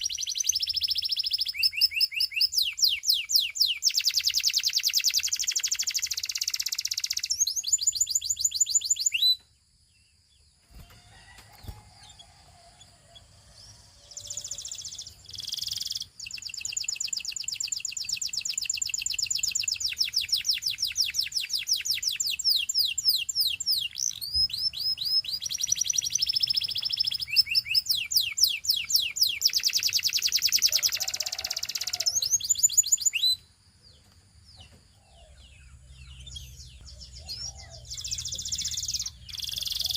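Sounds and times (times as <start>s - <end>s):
canary singing trills: 0.0s - 9.6s, 10.3s - 39.9s.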